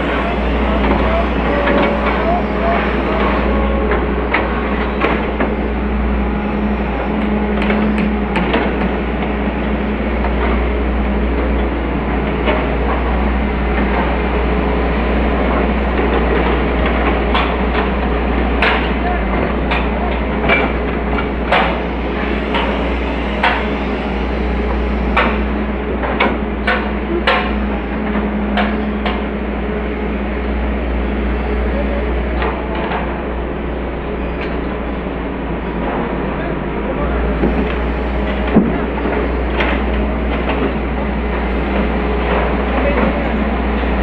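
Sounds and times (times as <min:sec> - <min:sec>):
excavator engine hum: 0:00.0 - 0:44.0.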